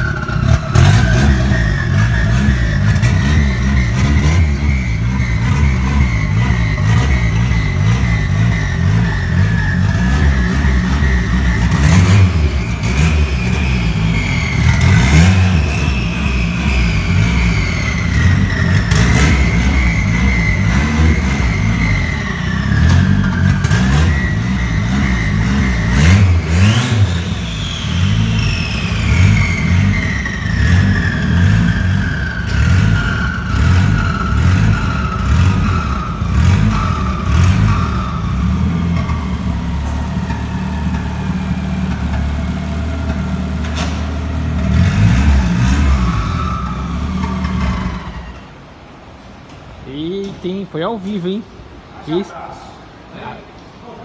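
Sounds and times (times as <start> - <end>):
sharp exhaust cracks: 0.0 - 51.9
deep exhaust rumble: 0.0 - 52.0.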